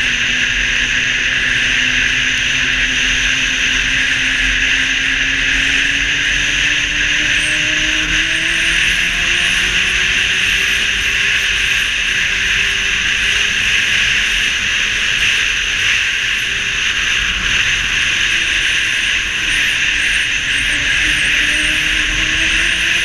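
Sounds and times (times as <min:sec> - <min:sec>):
faint engine tone: 0:00.0 - 0:23.0.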